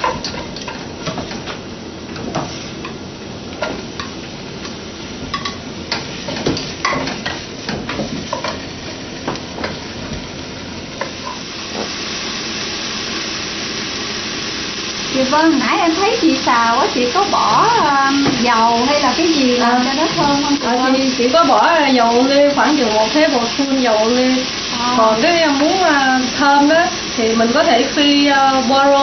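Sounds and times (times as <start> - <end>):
food sizzling: 0.0 - 29.0.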